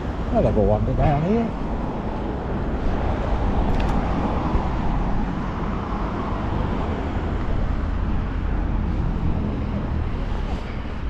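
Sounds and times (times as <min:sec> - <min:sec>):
passing cars: 0:00.0 - 0:11.0.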